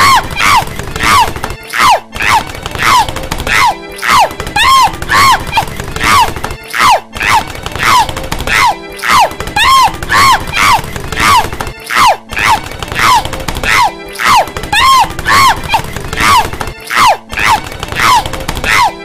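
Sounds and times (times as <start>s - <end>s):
cartoon woman yelping: 0.0s - 19.0s.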